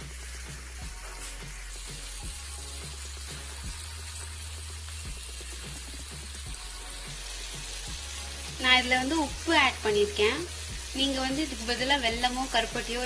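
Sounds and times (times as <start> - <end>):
water boiling hard in a pan: 0.0 - 13.0.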